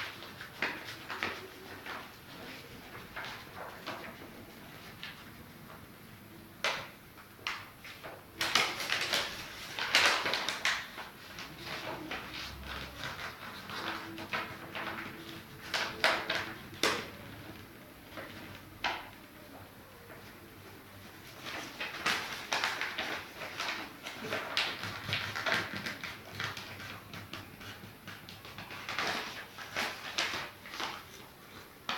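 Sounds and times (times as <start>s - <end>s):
paper crinkling and scraping: 0.0s - 5.8s, 7.8s - 19.1s, 20.0s - 31.9s.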